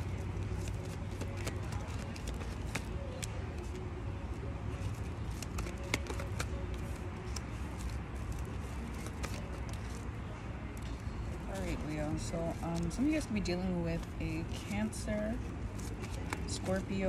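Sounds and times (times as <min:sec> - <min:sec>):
cards being shuffled: 0:00.0 - 0:03.8, 0:04.6 - 0:10.2, 0:11.5 - 0:13.3, 0:14.0 - 0:17.0.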